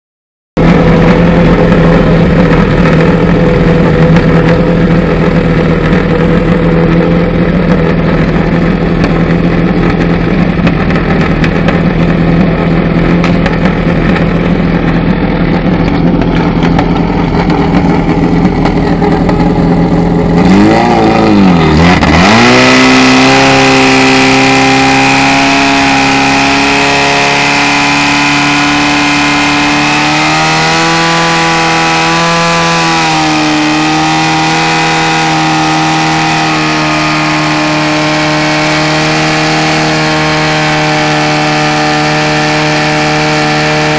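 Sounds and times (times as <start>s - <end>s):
pump engine running loud: 0.6s - 43.9s.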